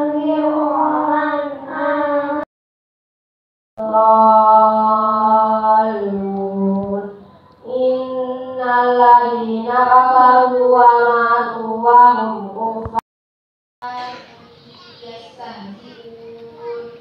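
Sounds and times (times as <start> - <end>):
child chanting into a microphone: 0.0 - 2.4, 3.8 - 13.0, 13.8 - 17.0.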